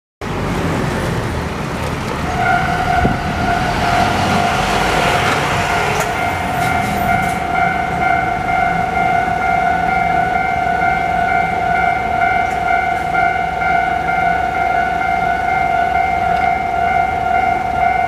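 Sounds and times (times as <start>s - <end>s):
rushing background noise: 0.2s - 17.8s
level crossing warning alarm: 2.2s - 18.0s.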